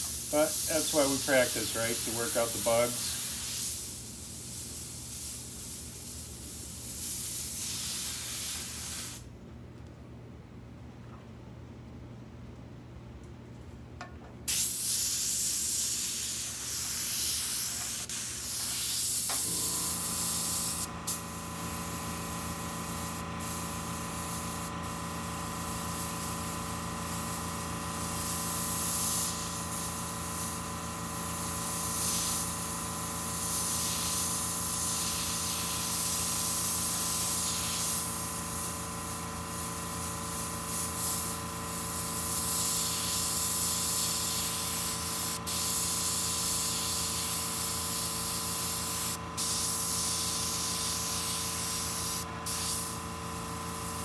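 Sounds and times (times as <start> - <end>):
airbrush spraying hiss: 0.0 - 9.3, 14.5 - 54.0.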